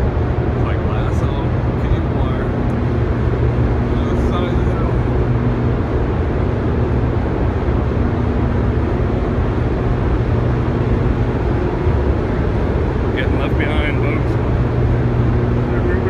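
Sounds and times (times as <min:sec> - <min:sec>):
turbine generators humming: 0:00.0 - 0:16.0.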